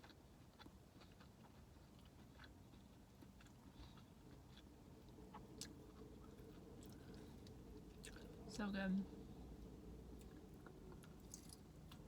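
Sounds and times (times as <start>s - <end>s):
chewing food: 0.0s - 8.5s, 10.1s - 12.0s.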